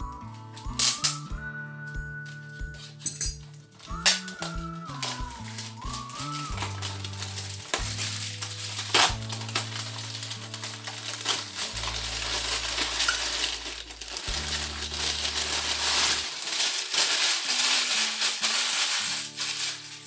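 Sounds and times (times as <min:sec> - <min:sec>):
background music with low notes: 0:00.0 - 0:20.0
packaging crinkling and rustling: 0:02.2 - 0:20.0.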